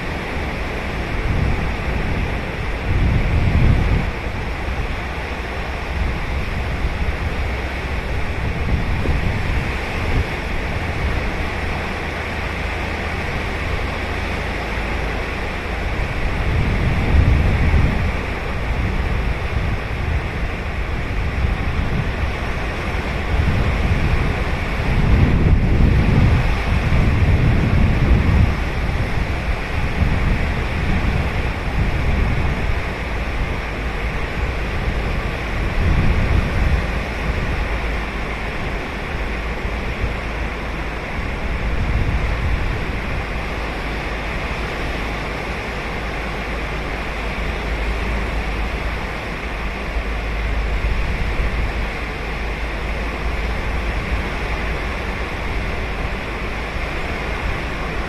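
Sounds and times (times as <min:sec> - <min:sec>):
deep surf rumble: 0:00.0 - 0:58.0
waves breaking on beach: 0:00.0 - 0:58.0.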